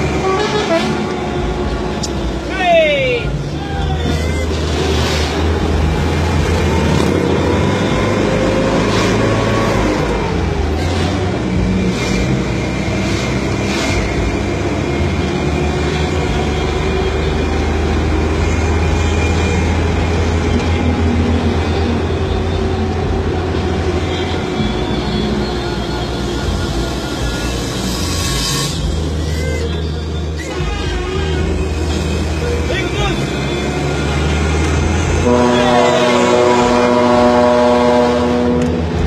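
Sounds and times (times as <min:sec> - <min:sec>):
bus engine running hard: 0:00.0 - 0:39.0
road noise: 0:00.0 - 0:39.0.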